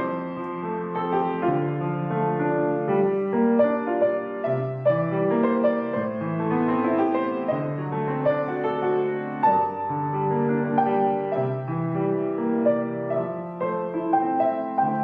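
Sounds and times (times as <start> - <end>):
piano melody with bass notes: 0.0 - 15.0.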